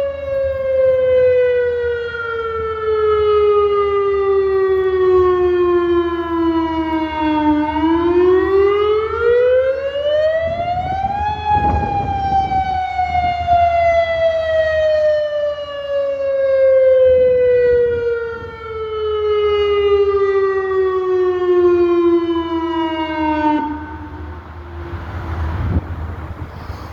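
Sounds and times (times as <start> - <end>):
outdoor warning siren wailing: 0.0 - 26.9.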